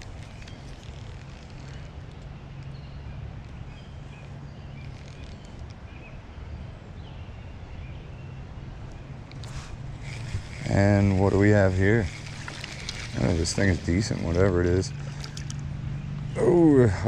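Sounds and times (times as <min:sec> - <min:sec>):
even outdoor rush: 0:00.0 - 0:17.0
low hum: 0:00.0 - 0:17.0.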